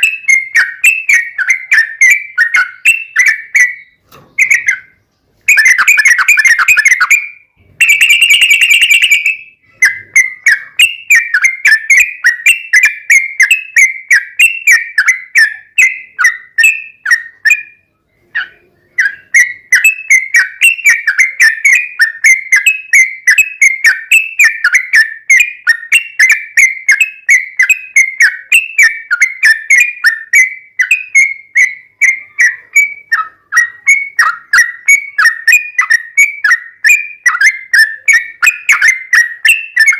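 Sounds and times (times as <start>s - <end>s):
bulbul singing rapid chirps: 0.0s - 39.9s.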